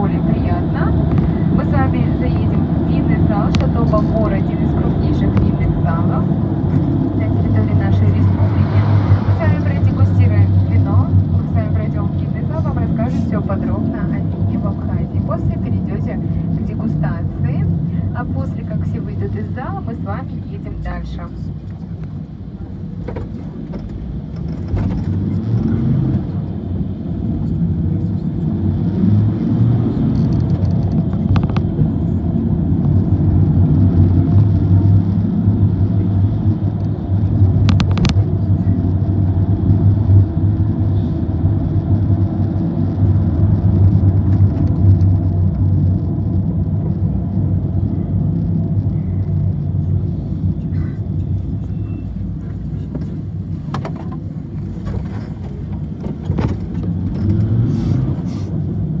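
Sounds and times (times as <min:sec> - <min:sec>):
vehicle engine and tyres rumbling: 0:00.0 - 0:59.0.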